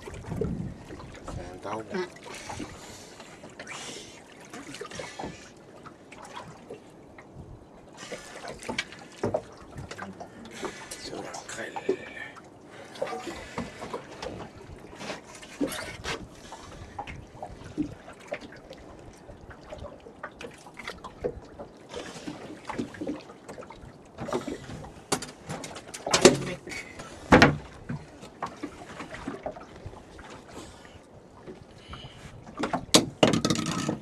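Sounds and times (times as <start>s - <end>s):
water splashing and trickling: 0.0s - 34.0s.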